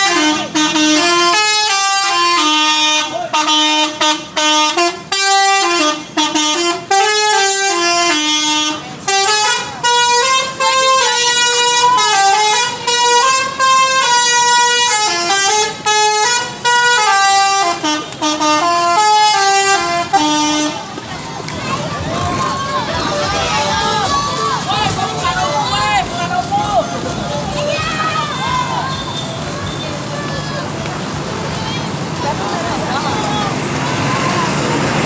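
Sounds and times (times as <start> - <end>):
musical bus air horns: 0.0 - 21.1, 21.8 - 31.2.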